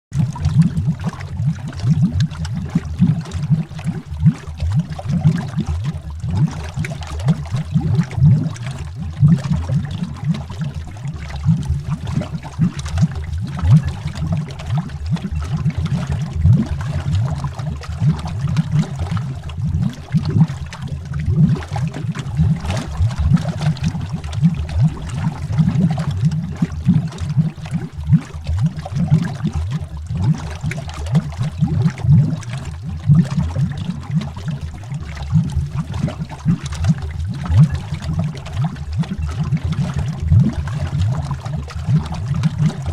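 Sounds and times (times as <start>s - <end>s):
underwater bubbling: 0.1s - 42.9s.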